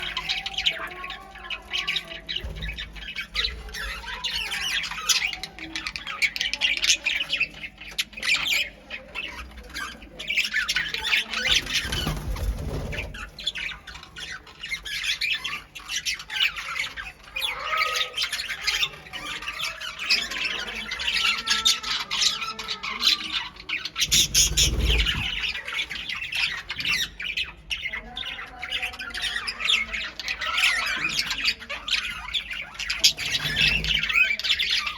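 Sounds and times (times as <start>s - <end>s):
budgies and cockatiels chattering: 0.0s - 34.9s.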